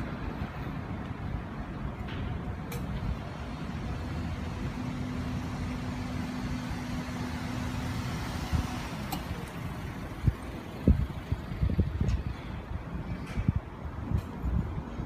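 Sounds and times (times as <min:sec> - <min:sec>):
engine hum: 0:00.0 - 0:15.0
rumble of passing vehicles: 0:00.0 - 0:15.0.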